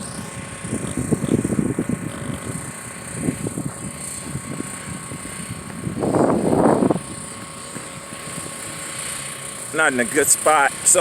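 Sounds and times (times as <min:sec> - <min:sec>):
dirt bikes running: 0:00.0 - 0:11.0
wind buffeting microphone: 0:00.0 - 0:11.0.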